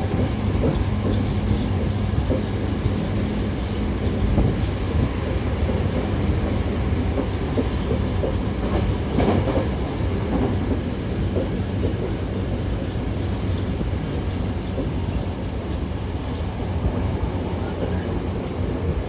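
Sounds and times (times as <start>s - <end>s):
clacks over the track: 0.0s - 19.0s
train wheels rumbling on rail: 0.0s - 19.0s.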